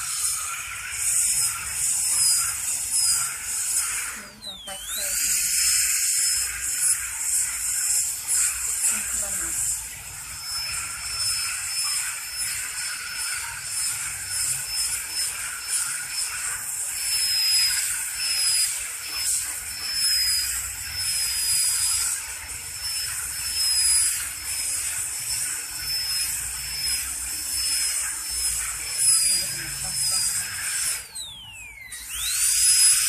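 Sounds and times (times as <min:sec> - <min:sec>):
dental drill whine: 0:00.0 - 0:33.0.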